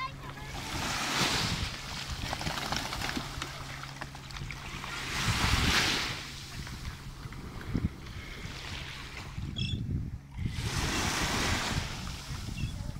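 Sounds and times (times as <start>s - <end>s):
small waves washing on beach: 0.0s - 9.4s, 10.4s - 12.9s
wind rumbling on microphone: 0.0s - 12.9s.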